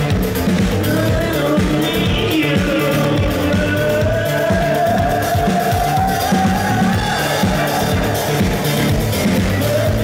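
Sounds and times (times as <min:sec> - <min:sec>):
loud live electronic music: 0:00.0 - 0:10.0.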